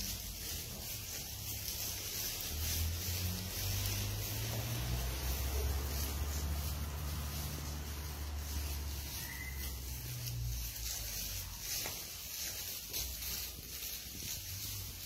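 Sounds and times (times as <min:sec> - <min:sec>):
sheep rustling on straw: 0:00.0 - 0:15.0.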